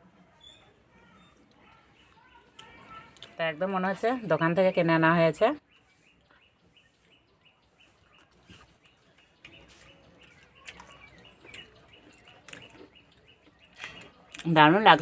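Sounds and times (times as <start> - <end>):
faint bird chirping: 0.1 - 14.7.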